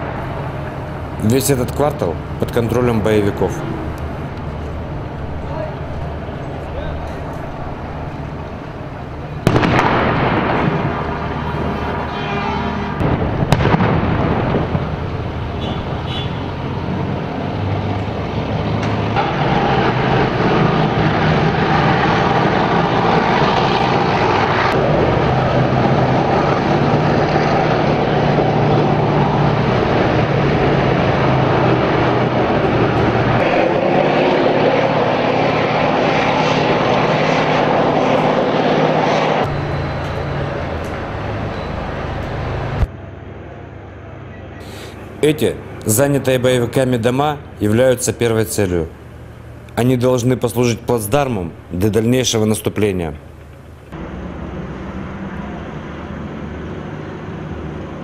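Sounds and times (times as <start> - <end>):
armoured vehicle engine: 0.0 - 58.0.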